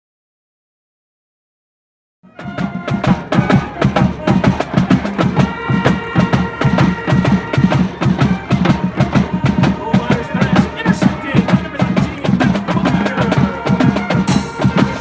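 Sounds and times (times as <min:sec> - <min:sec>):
music with fast percussive beat: 0:02.4 - 0:15.0.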